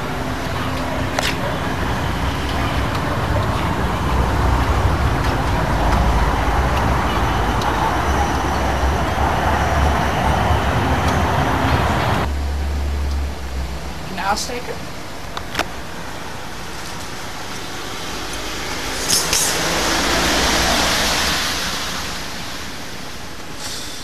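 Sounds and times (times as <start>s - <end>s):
vehicles passing on wet road: 0.0s - 14.1s, 15.1s - 24.0s.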